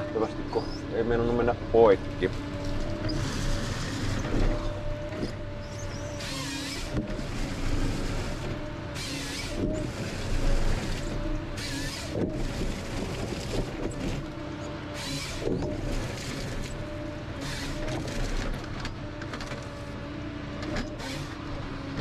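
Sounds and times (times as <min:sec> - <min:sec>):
hydraulic hum of harvester: 0:00.0 - 0:22.0.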